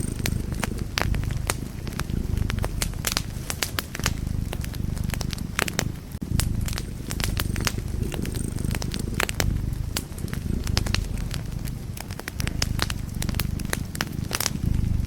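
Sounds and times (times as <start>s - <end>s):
fire pops and snaps: 0.0s - 15.0s
low rumble of burning fire: 0.0s - 15.0s
wood fire crackling: 0.0s - 15.0s.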